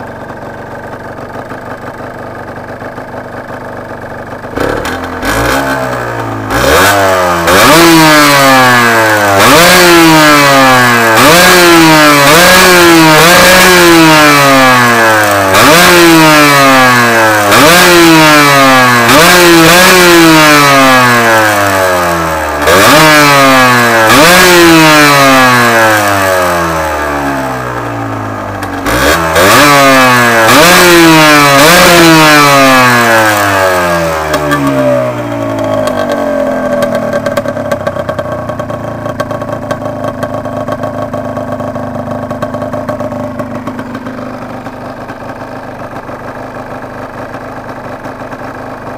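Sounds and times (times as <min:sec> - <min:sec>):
two-stroke engine revving: 0:00.0 - 0:48.9.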